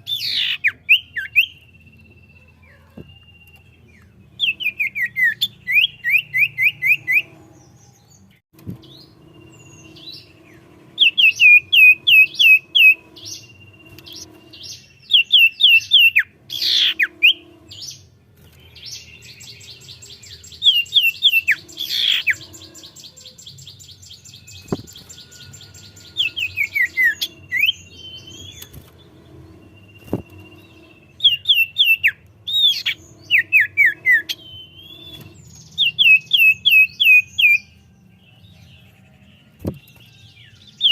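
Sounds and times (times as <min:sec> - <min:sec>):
bird singing whistled notes: 0:00.0 - 0:40.9
bird trill: 0:00.0 - 0:40.9.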